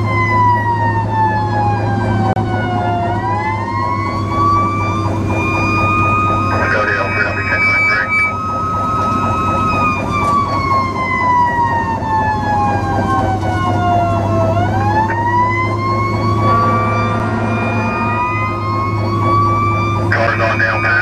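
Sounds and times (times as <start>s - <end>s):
fire truck siren wailing: 0.0s - 21.0s
truck engine rumble: 0.0s - 21.0s.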